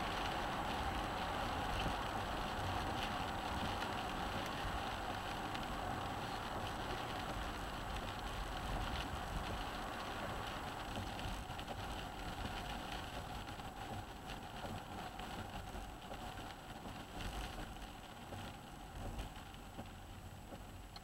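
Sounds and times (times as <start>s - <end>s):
tyres hissing on wet road: 0.0s - 20.8s.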